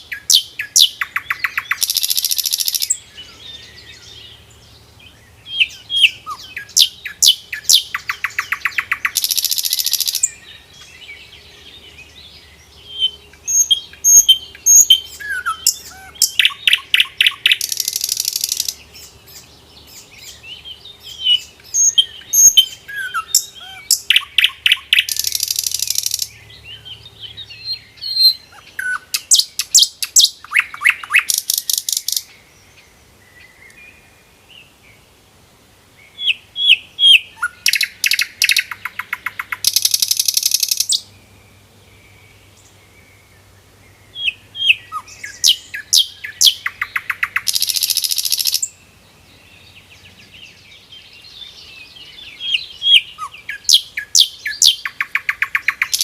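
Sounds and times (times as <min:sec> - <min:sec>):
nightingale singing: 0:00.0 - 0:35.1, 0:35.9 - 0:56.0.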